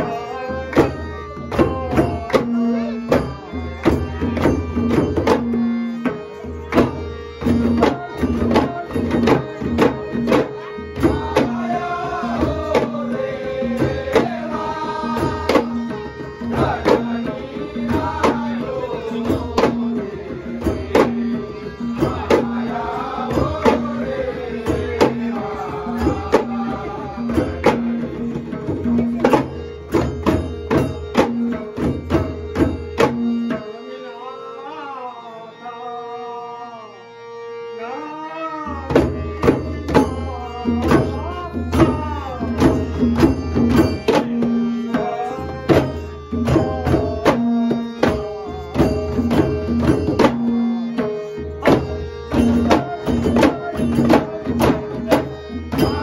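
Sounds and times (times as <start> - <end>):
man singing: 0.0 - 3.7, 7.6 - 29.4, 33.5 - 37.0, 37.7 - 51.0, 52.4 - 56.0
clay-pot drums beating: 0.0 - 33.6, 38.9 - 56.0
tabla: 0.0 - 36.7, 37.3 - 56.0
harmonium: 0.0 - 56.0.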